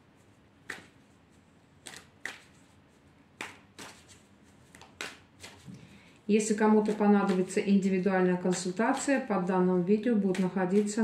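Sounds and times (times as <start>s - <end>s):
cards being shuffled: 0.2s - 9.3s, 10.2s - 11.0s.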